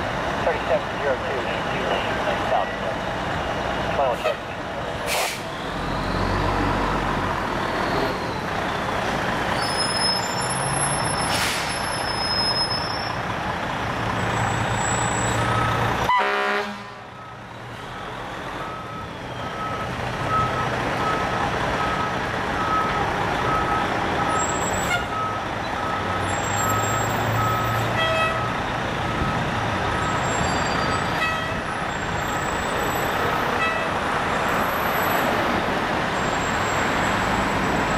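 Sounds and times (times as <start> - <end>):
fire truck engine running: 0.0 - 37.9
street noise: 0.0 - 37.9.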